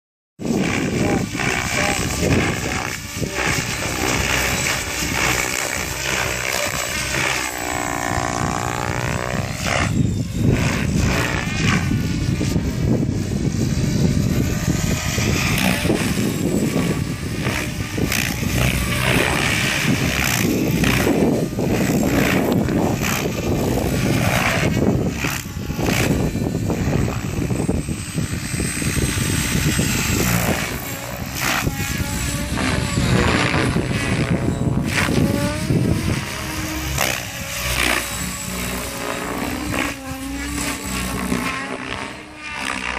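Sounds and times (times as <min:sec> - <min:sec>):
drivetrain whine: 0:00.4 - 0:42.9
model helicopter rotor whoosh: 0:00.4 - 0:42.9.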